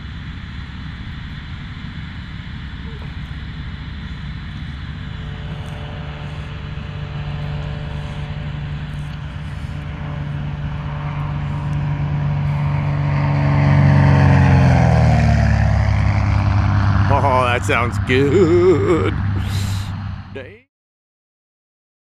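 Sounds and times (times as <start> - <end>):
propeller plane engine in flight: 0.0 - 20.5.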